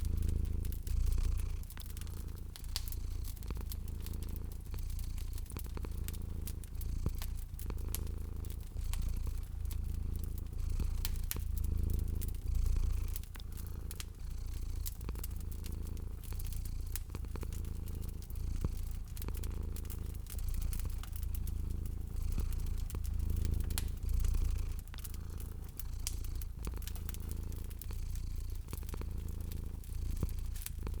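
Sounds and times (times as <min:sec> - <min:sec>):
cat purring: 0:00.0 - 0:31.0
fireplace fire crackling: 0:00.0 - 0:31.0.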